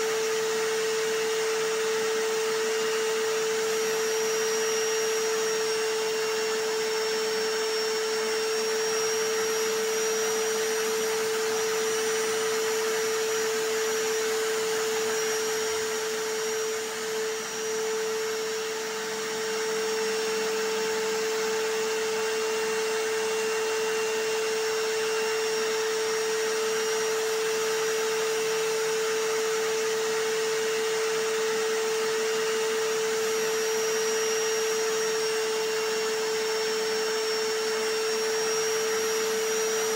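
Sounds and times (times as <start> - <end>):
hammer drill running: 0.0 - 39.9
vacuum cleaner running: 0.0 - 39.9.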